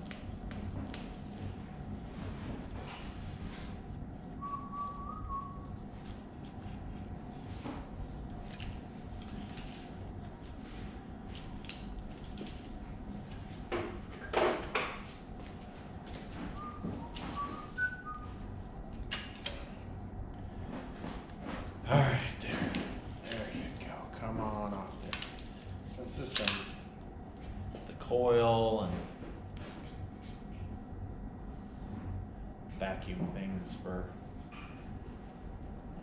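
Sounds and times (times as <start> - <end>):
background hum: 0.0 - 36.0.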